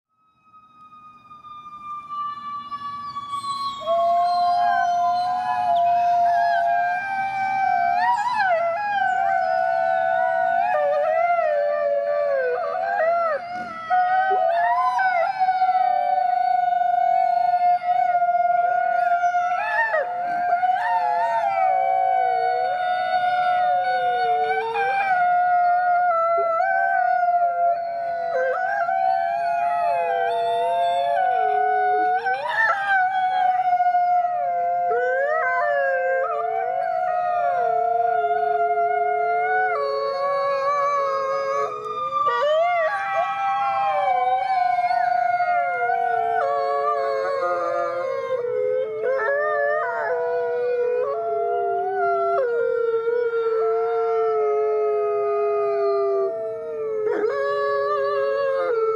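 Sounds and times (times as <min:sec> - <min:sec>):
dogs howling together: 0:03.6 - 0:58.9.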